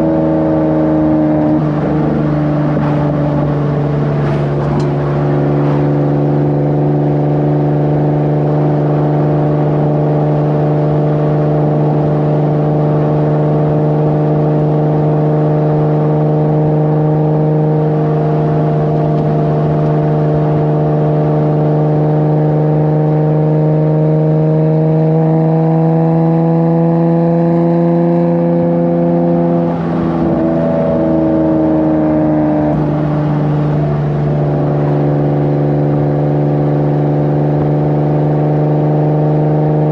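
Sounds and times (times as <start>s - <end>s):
car engine and exhaust while driving: 0.0s - 39.9s.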